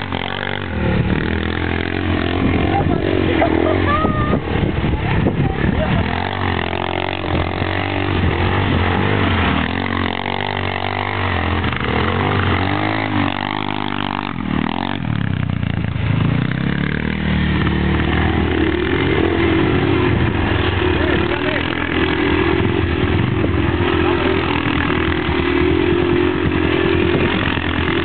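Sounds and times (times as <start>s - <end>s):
quad bike engine revving: 0.0s - 28.0s.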